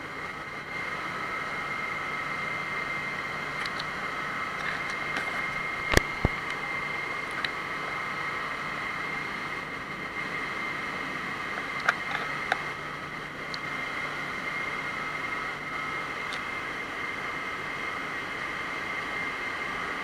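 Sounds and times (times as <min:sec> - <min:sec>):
constant high whine: 0:00.0 - 0:20.0
engine room machinery din: 0:00.0 - 0:20.0.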